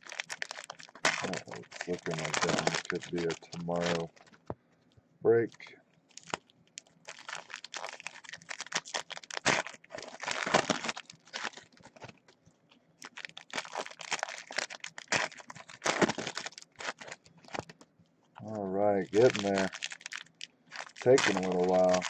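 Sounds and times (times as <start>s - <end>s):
foil wrappers ripping and crinkling: 0.0s - 4.4s, 6.1s - 12.3s, 13.0s - 17.7s, 19.0s - 22.0s.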